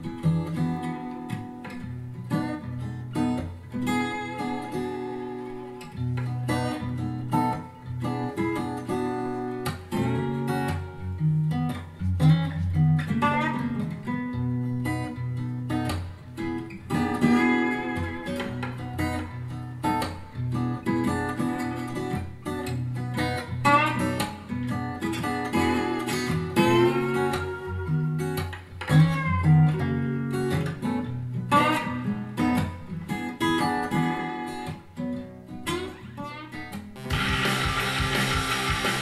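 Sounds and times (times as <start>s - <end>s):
acoustic blues guitar music: 0.0s - 39.0s.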